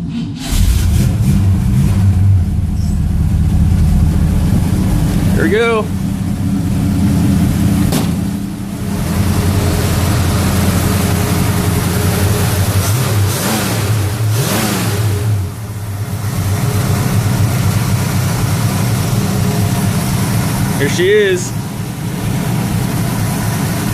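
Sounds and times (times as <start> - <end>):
engine revs: 0.0 - 23.9
car engine running: 0.4 - 23.9.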